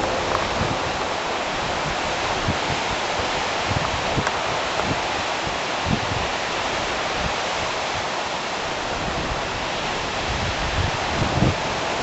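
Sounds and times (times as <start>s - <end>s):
wind buffeting microphone: 0.0s - 12.0s
wind through trees: 0.0s - 12.0s.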